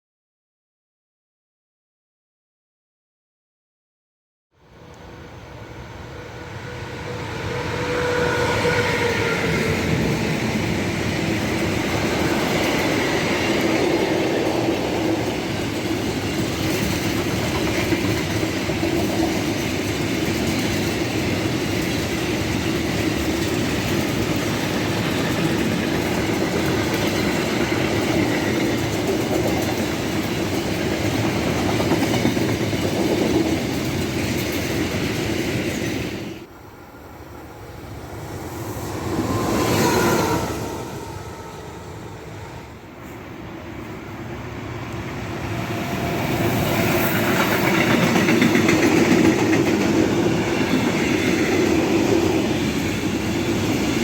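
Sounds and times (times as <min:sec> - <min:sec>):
freight train passing: 0:04.6 - 0:54.0.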